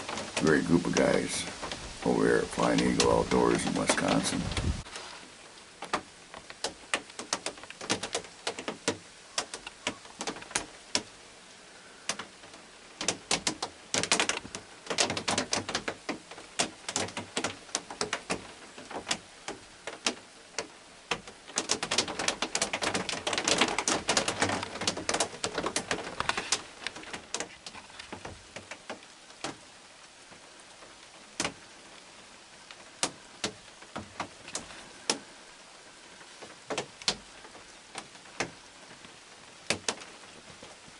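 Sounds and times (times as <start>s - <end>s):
rain hiss: 0.0s - 40.9s
raindrops tapping: 0.0s - 40.9s.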